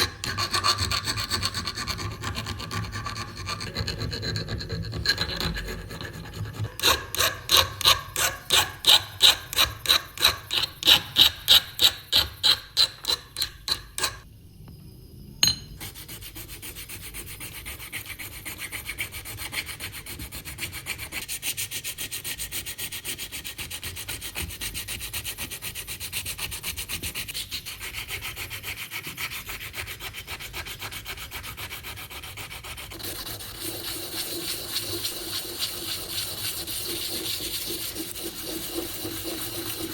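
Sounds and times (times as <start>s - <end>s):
file rubbing back and forth: 0.0s - 14.2s, 15.8s - 39.9s.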